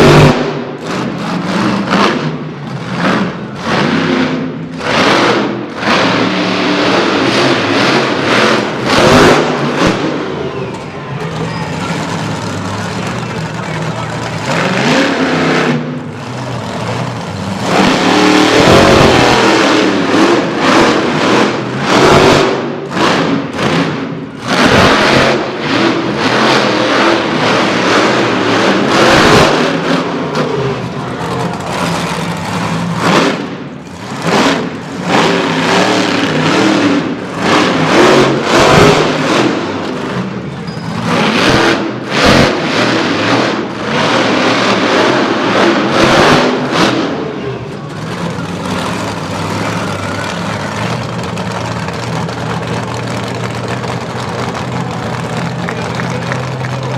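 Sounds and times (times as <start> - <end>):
truck engine revving: 0.0 - 56.9.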